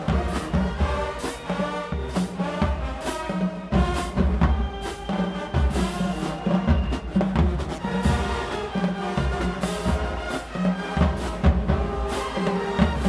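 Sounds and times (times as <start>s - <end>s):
brass chords: 0.0s - 13.0s
drumline beat: 0.0s - 13.0s.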